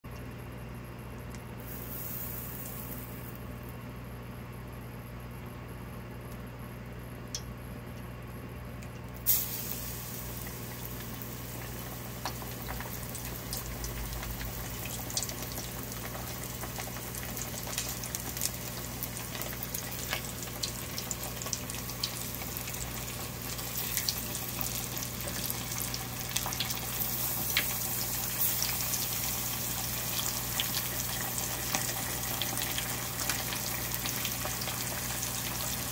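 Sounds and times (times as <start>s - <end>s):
oil sizzling and popping: 1.3s - 3.6s, 9.2s - 35.9s.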